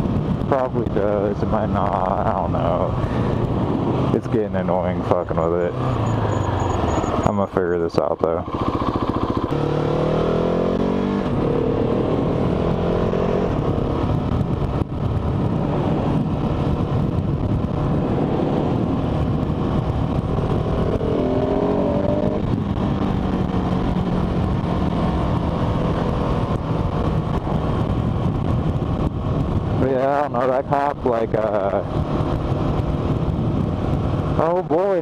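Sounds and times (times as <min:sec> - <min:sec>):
wind and road noise: 0:00.0 - 0:35.0
motorcycle engine accelerating: 0:01.8 - 0:35.0.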